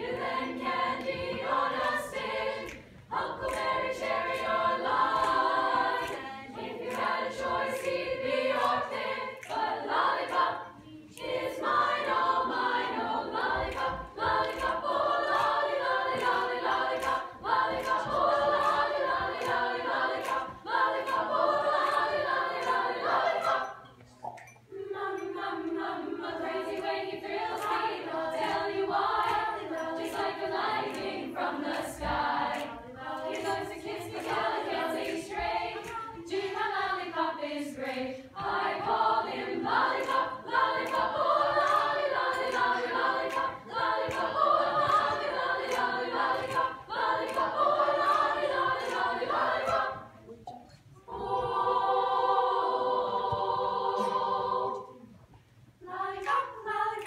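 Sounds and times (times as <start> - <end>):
girls' choir singing: 0.0 - 24.0, 24.7 - 55.2, 55.8 - 57.0.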